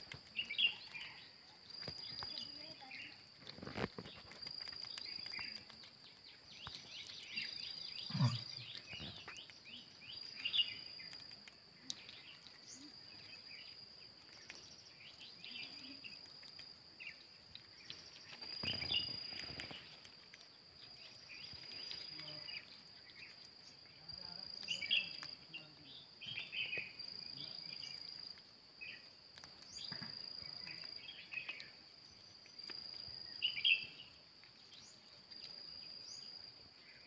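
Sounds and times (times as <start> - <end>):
bird chirps: 0.3 - 11.2, 11.8 - 16.2, 17.0 - 20.0, 20.8 - 28.2, 28.8 - 32.3, 33.1 - 37.0.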